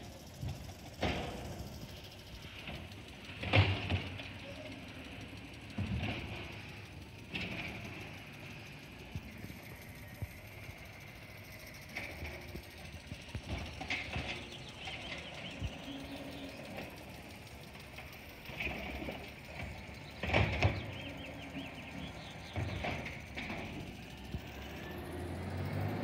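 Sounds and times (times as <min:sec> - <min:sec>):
diesel engine rumbling: 0:00.0 - 0:26.0
hydraulic mechanical noise: 0:00.0 - 0:26.0.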